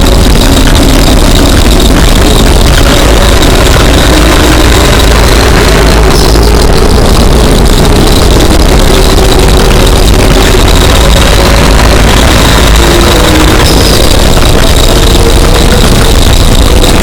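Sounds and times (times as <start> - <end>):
distorted alarm noise: 0.0 - 17.0.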